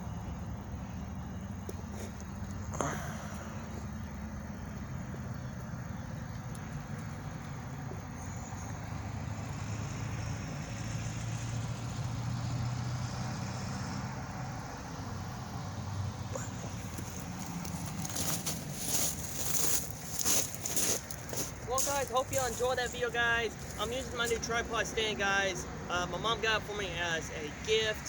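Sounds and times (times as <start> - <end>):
diesel locomotive engines droning: 0.0 - 28.0.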